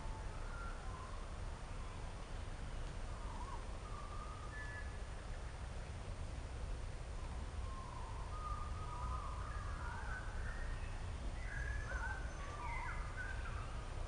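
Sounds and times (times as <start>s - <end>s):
songbird singing: 0.0s - 6.0s, 7.0s - 14.0s.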